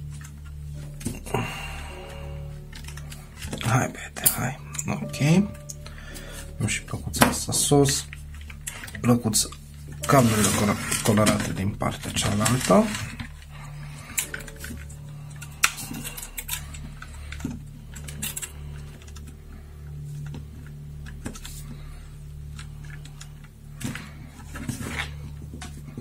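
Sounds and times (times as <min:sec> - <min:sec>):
plastic parts clicking and rattling: 0:00.0 - 0:26.0
steady low hum: 0:00.0 - 0:26.0.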